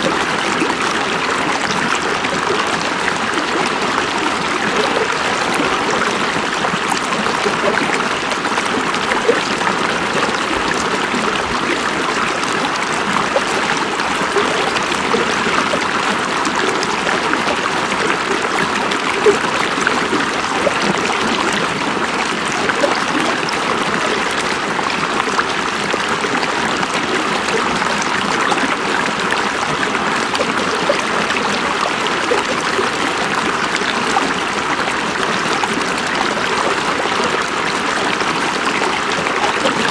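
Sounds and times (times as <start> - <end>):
small splashes and trickles: 0.0 - 39.9
water rushing over rocks: 0.0 - 39.9.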